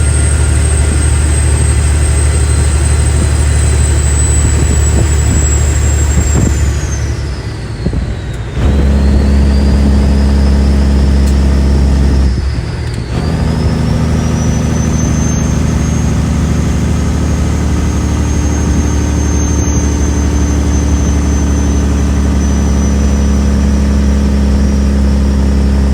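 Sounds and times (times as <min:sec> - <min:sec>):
diesel truck engine pulling: 0:00.0 - 0:25.9
turbo whistle: 0:00.0 - 0:25.9.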